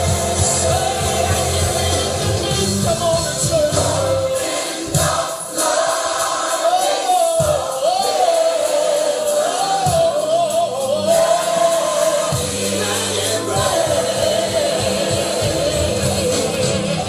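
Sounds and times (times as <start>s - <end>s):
choir and band accompaniment: 0.0s - 17.0s.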